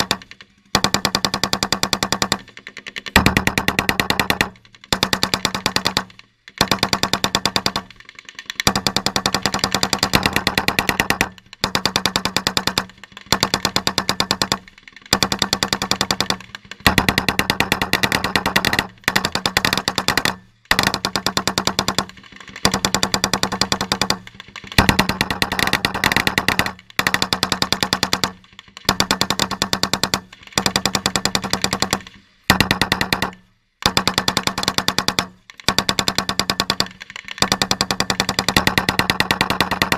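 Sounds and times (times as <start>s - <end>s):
machine guns firing in bursts: 0.0s - 39.9s.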